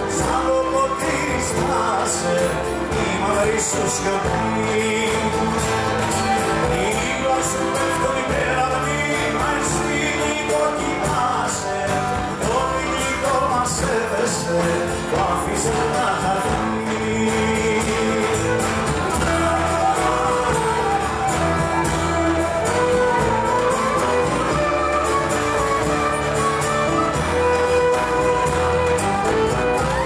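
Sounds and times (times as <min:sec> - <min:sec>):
accompanying instruments: 0:00.0 - 0:30.0
acoustic guitar strumming: 0:00.0 - 0:30.0
man singing: 0:00.0 - 0:30.0.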